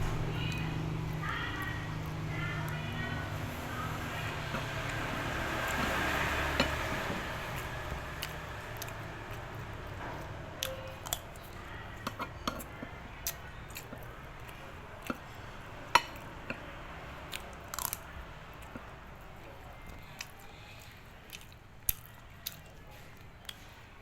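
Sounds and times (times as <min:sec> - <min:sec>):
person chewing and crunching food: 0:03.9 - 0:23.8.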